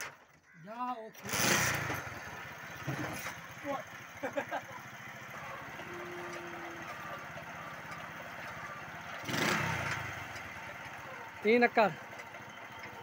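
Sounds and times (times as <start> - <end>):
motorcycle engine running: 1.2 - 13.0.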